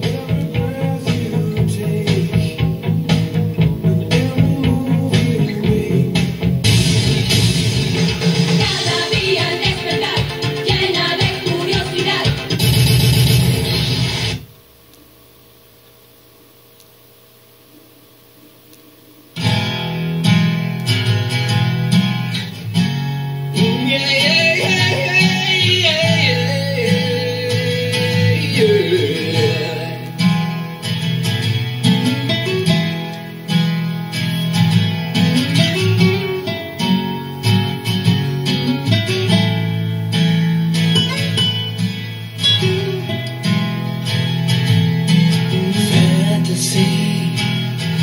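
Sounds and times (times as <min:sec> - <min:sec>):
music with strummed guitar: 0:00.0 - 0:14.5, 0:19.4 - 0:48.0.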